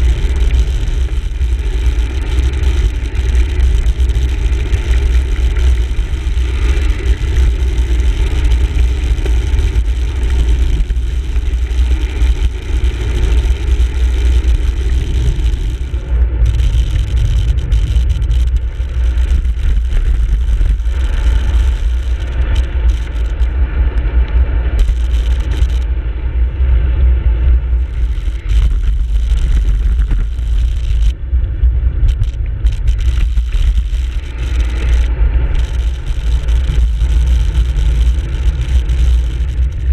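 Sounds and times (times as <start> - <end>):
road and tyre noise: 0.0 - 39.9
wind buffeting microphone: 0.0 - 39.9.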